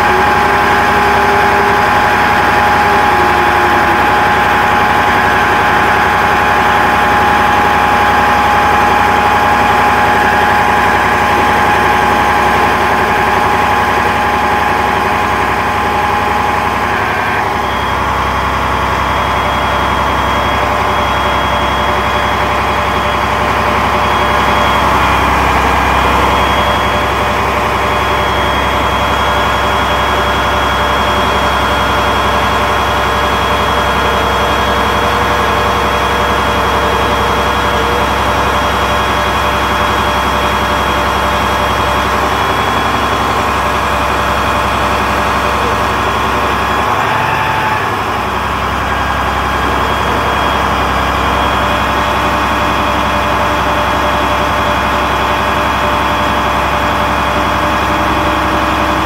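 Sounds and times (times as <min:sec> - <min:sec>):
high whines of crane: 0:00.0 - 0:59.0
truck engine running: 0:00.0 - 0:59.0.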